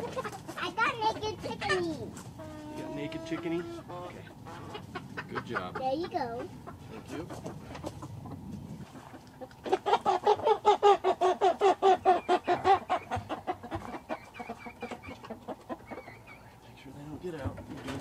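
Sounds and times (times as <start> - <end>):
chickens clucking: 0.0 - 18.0
young chickens squawking: 0.0 - 18.0.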